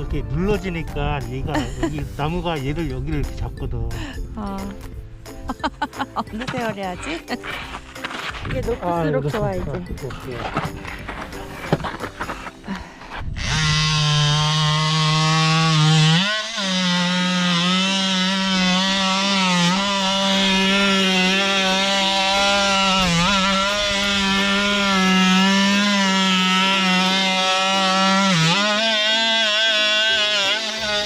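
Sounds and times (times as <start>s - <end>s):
oscillating tool cutting wood: 5.5s - 31.0s.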